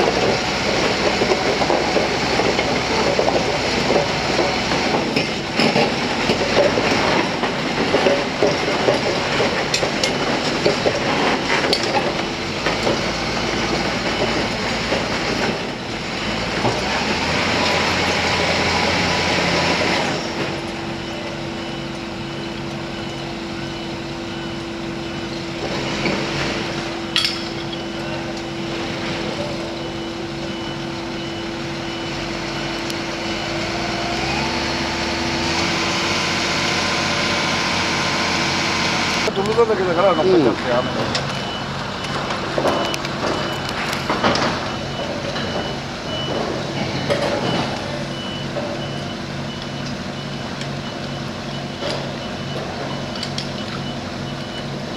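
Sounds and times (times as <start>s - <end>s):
diesel engine hum: 0.0s - 54.9s
steel tracks clanking and rattling: 0.0s - 54.9s.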